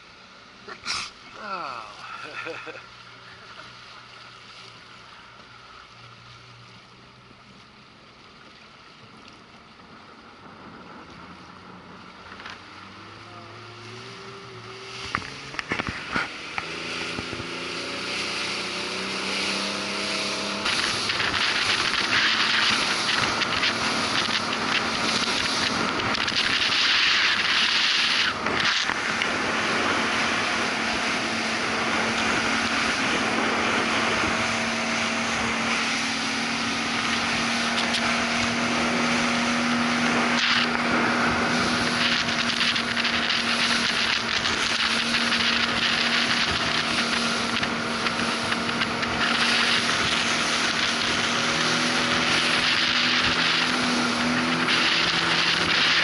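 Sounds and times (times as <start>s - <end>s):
motorboat engine: 0.0s - 56.0s
wind rushing over microphone: 10.3s - 56.0s.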